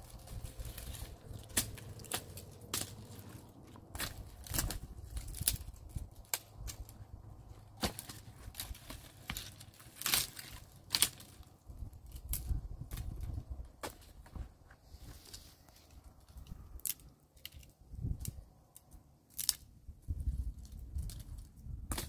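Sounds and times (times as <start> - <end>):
dry twigs snapping and crunching: 0.0 - 14.3, 15.2 - 22.0.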